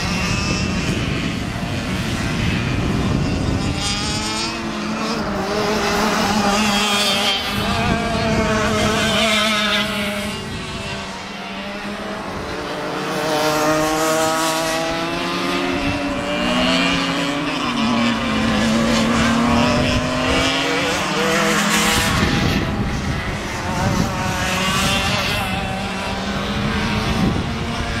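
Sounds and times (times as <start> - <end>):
kart engines revving: 0.0 - 28.0.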